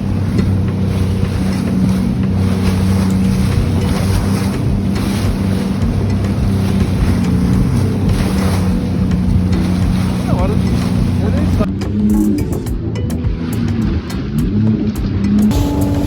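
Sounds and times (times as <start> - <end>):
jet ski engine drone: 0.0 - 16.0
water rushing: 0.0 - 16.0
wind noise on microphone: 0.0 - 16.0.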